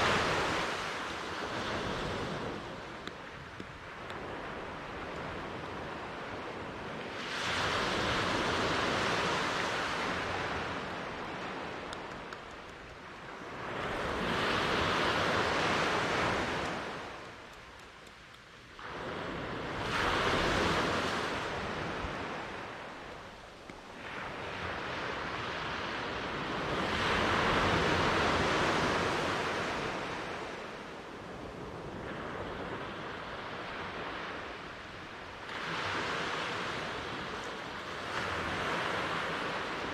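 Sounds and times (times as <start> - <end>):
waves breaking on the shore: 0.0 - 39.9.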